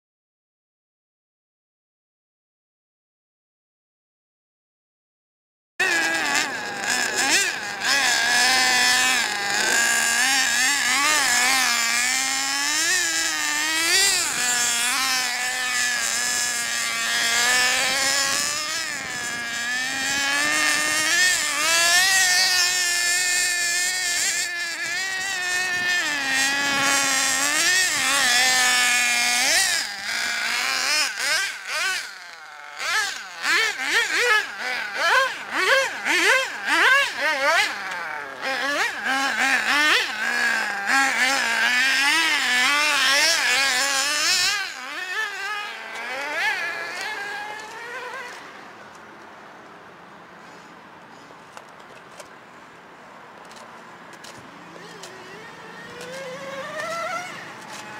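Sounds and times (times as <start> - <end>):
rc car nitro engine revving: 5.8 - 48.8, 53.5 - 57.9.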